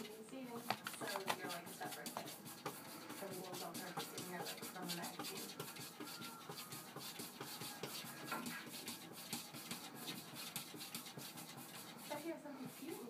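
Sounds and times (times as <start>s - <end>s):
cat scratching at wooden door: 0.0s - 12.2s.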